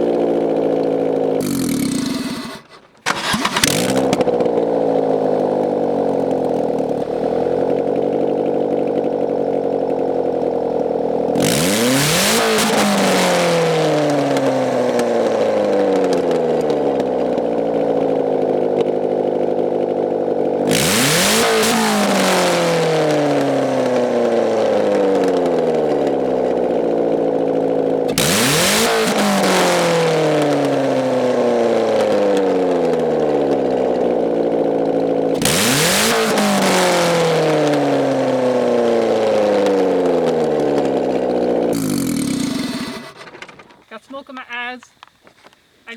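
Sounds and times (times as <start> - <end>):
car engine revving: 0.0 - 44.2.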